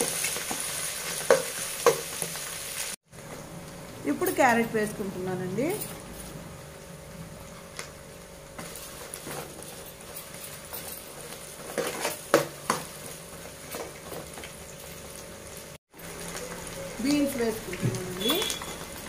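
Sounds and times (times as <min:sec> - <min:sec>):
faint frying sizzle: 0:00.0 - 0:19.0.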